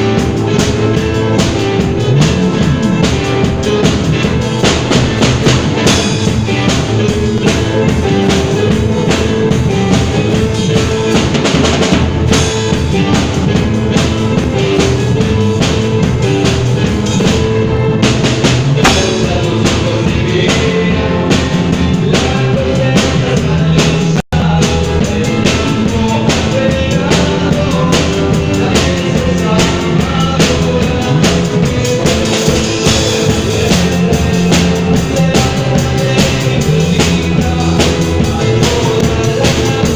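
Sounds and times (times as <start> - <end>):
band playing: 0.0 - 39.9
drum kit and bass beat: 0.0 - 39.9.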